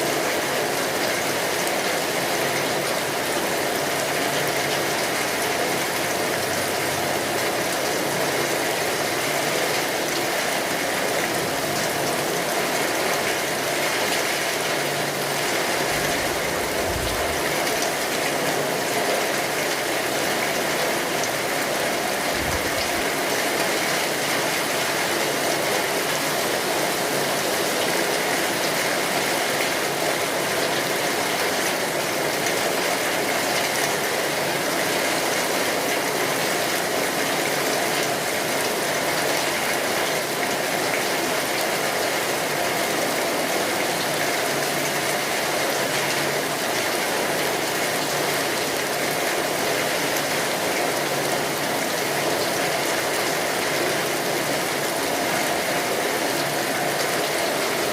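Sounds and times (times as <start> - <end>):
heavy rain on a tin roof: 0.0 - 57.9.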